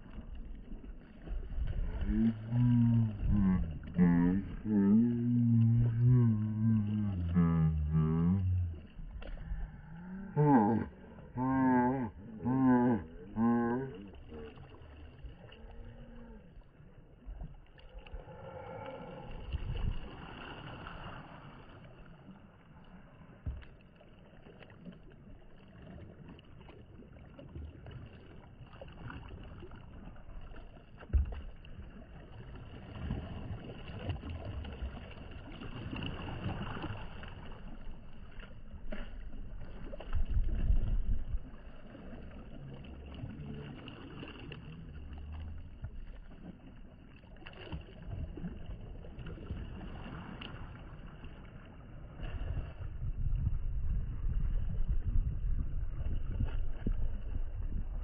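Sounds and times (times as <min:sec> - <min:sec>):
paddle strokes splashing: 0:00.0 - 0:58.0
water lapping against paddle board: 0:00.0 - 0:58.0.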